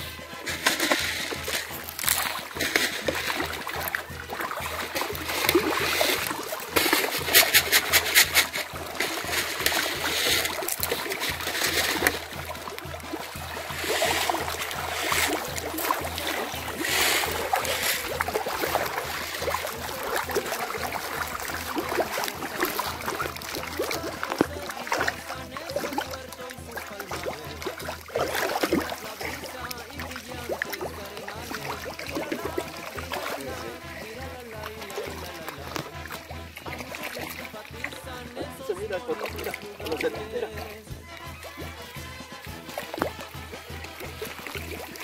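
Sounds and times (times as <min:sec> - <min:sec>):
fish splashing at surface: 0:00.0 - 0:45.0.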